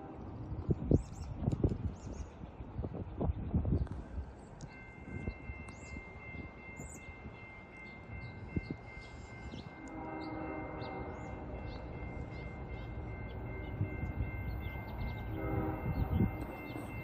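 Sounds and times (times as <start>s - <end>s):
low droning locomotive chord: 0.0s - 1.4s, 3.8s - 17.0s.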